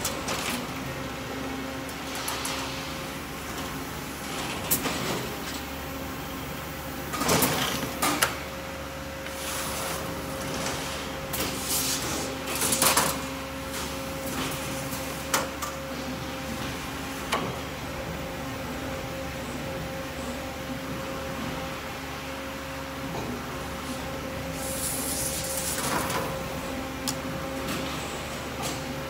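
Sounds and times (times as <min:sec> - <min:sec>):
factory machine humming: 0:00.0 - 0:29.0.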